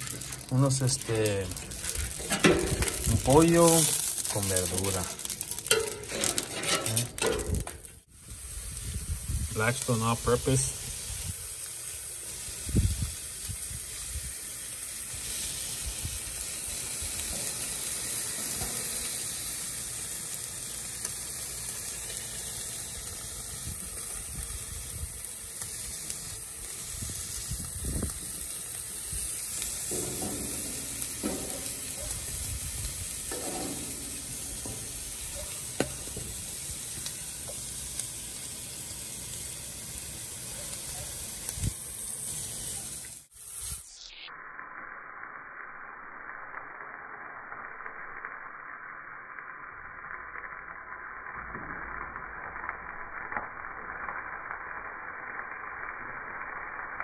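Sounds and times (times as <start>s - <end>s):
chicken sizzling on a griddle: 0.0s - 57.0s.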